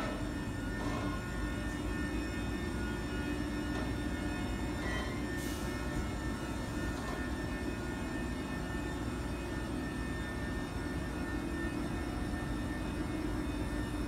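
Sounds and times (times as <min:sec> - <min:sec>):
electric locomotive drone: 0:00.0 - 0:14.0
thin steady whines: 0:00.0 - 0:14.0.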